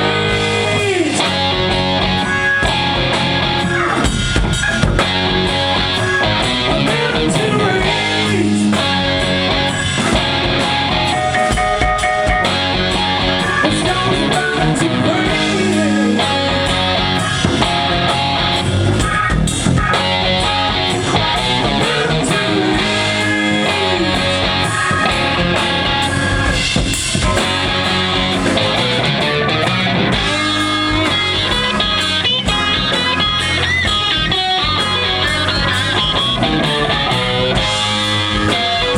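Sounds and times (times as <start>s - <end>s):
electric guitar: 0.0s - 38.9s
live rock band playing: 0.0s - 38.9s.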